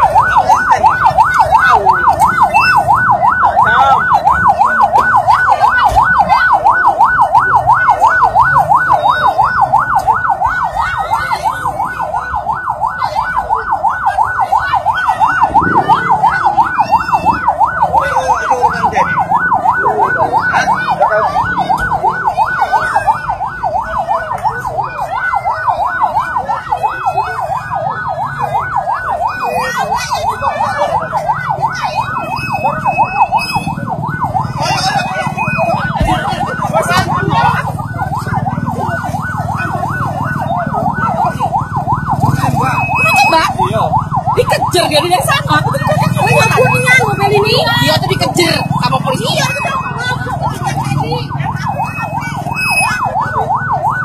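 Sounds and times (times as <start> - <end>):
faint crowd voices: 0.0 - 54.0
siren in rapid yelp: 0.0 - 54.0.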